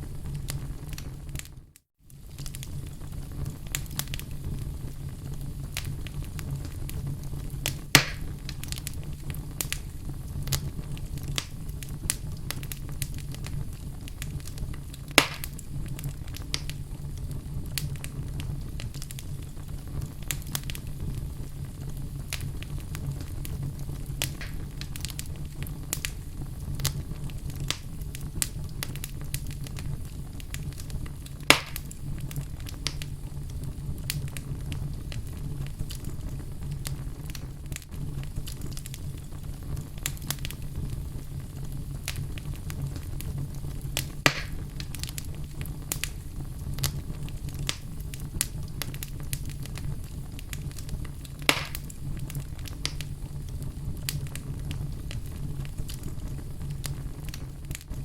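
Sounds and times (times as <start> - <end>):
burning wood crackling: 0.0 - 58.0
low rumble of flame: 0.0 - 58.0
sharp pops of fire: 0.0 - 58.0.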